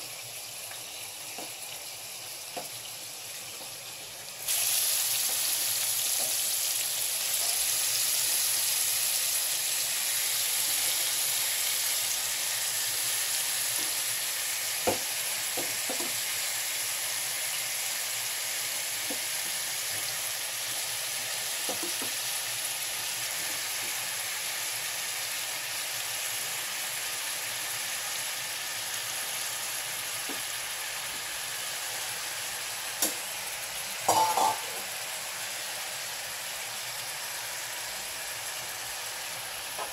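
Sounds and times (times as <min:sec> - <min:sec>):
shrimp sizzling in hot oil: 0:00.0 - 0:39.9.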